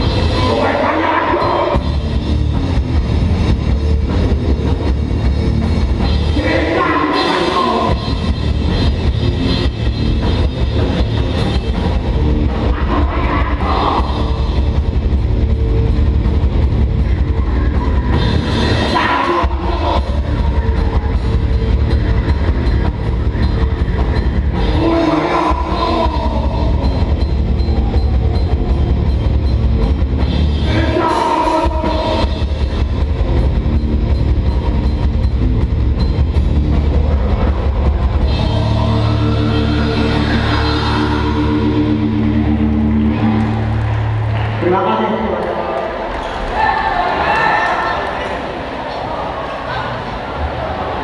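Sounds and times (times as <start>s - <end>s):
band vocals: 0.0s - 2.9s, 6.0s - 15.5s, 16.7s - 33.4s, 36.8s - 51.0s
fast drumming: 0.0s - 42.5s
distorted guitars and bass: 0.0s - 46.4s.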